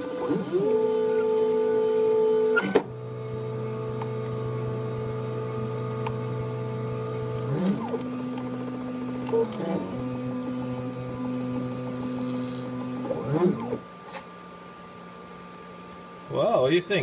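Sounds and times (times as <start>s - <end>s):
stepper motors whining: 0.0s - 14.2s
cooling fan noise: 0.0s - 17.0s.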